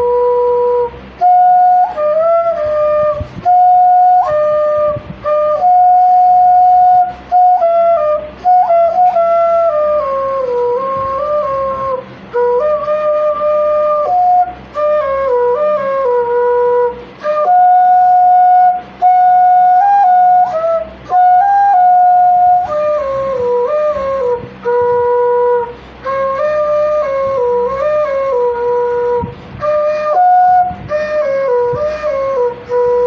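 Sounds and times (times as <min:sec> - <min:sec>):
flute playing slow melody: 0:00.0 - 0:33.0.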